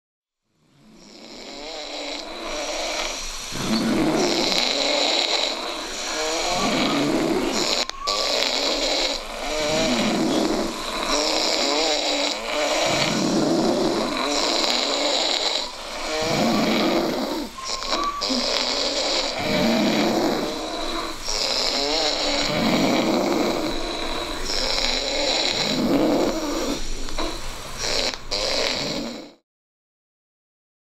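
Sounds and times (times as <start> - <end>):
loud snoring: 0.6 - 29.4
hissing breath: 0.8 - 29.3.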